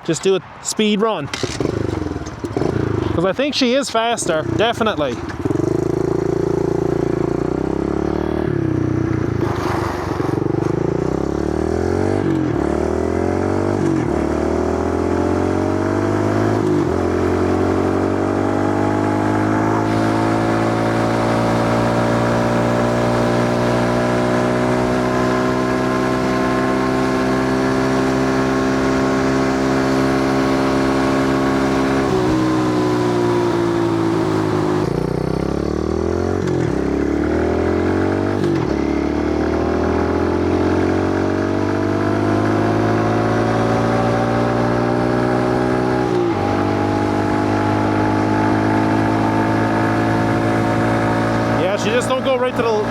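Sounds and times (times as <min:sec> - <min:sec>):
small motorbike engine revving: 0:01.3 - 0:03.2, 0:04.2 - 0:52.9.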